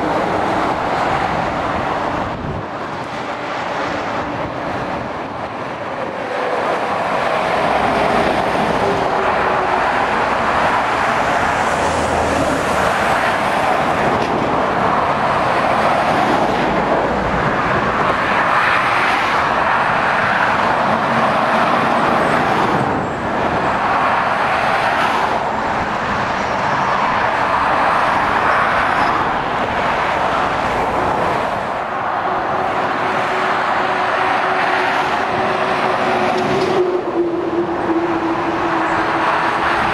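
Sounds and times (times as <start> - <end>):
motorway traffic passing: 0.0 - 39.9.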